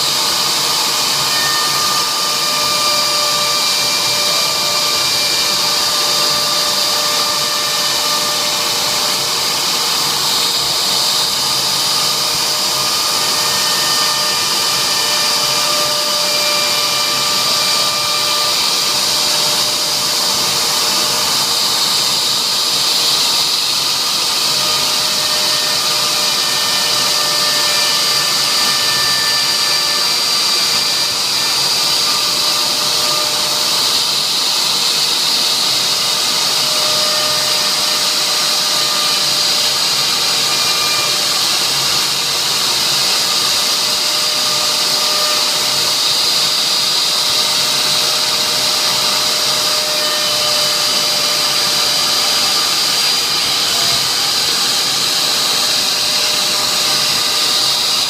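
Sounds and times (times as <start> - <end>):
hiss of cutting: 0.0 - 58.0
router spindle whining: 0.0 - 58.0.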